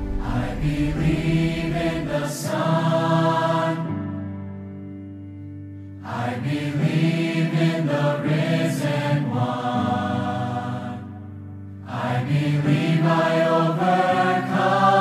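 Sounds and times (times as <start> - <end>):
mixed choir singing: 0.0 - 4.4, 6.0 - 15.0.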